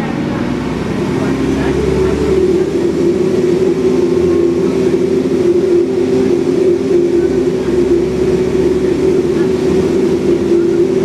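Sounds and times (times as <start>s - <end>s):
bus diesel engine: 0.0s - 11.0s
road noise: 0.0s - 11.0s
steady droning tone: 0.0s - 11.0s.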